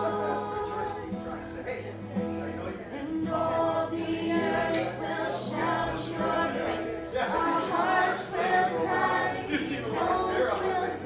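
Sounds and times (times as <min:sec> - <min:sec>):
acoustic guitar: 0:00.0 - 0:11.0
voices singing worship song: 0:00.0 - 0:11.0.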